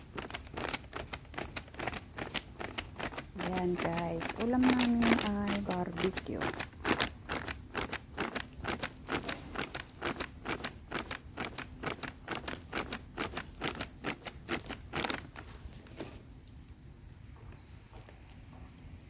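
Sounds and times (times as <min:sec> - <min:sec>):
meat grilling over charcoal: 0:00.0 - 0:19.0.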